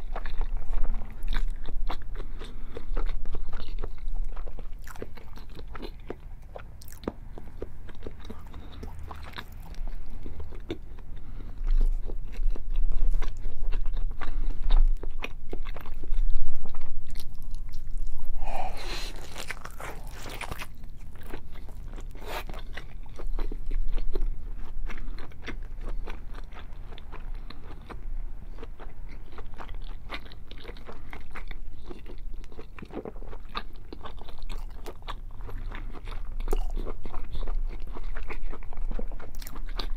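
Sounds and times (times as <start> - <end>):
close-miked chewing: 0.0 - 39.9.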